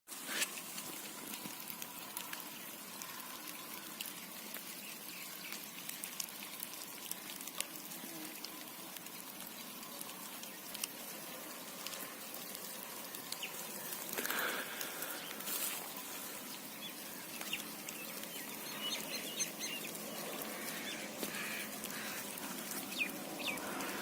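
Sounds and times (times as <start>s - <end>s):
rain hissing: 0.1s - 24.0s
raindrop ticks: 0.4s - 24.0s.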